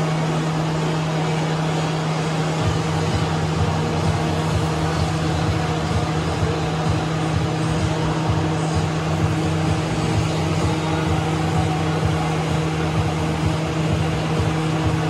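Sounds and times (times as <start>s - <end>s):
mechanical drone with hiss: 0.0s - 15.0s.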